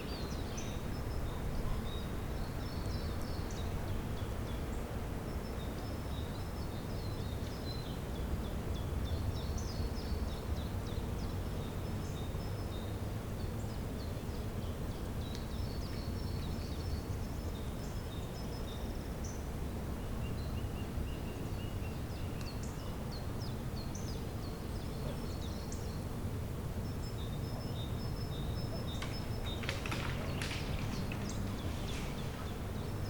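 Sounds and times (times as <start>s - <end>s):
low background rumble: 0.0s - 33.0s
songbirds chirping: 0.0s - 33.0s.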